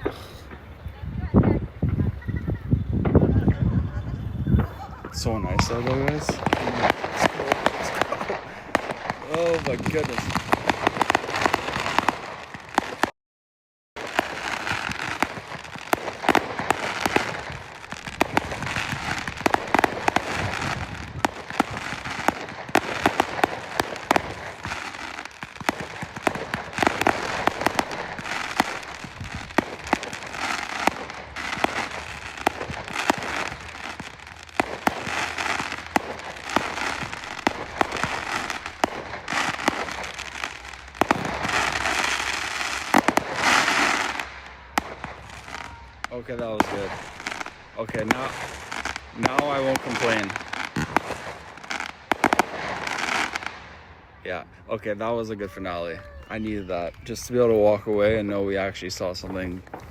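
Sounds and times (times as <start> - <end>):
fireworks bangs and crackling: 0.0 - 13.1, 14.0 - 59.9.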